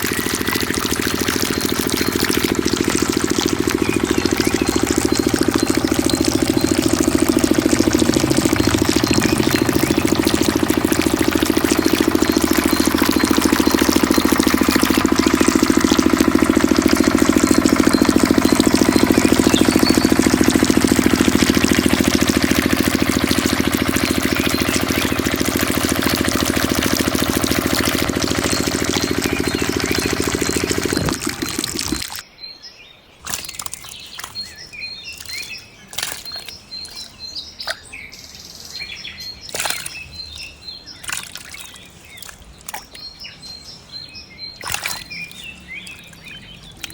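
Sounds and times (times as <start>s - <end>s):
diesel water pump running: 0.0s - 32.2s, 33.3s - 37.9s, 38.7s - 46.9s
birds chirping: 0.0s - 46.9s.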